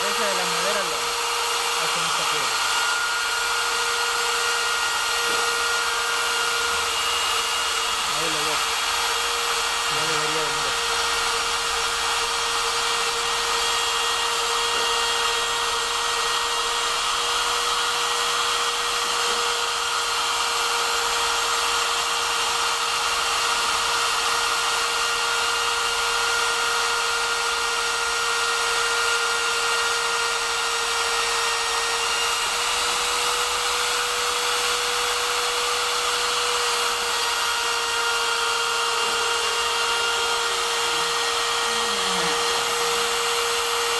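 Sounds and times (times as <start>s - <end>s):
router spindle motor whining: 0.0s - 43.9s.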